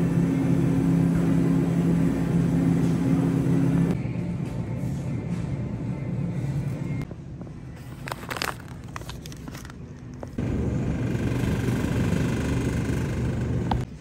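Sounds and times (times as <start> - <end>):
refrigerated case humming: 0.0 - 14.0.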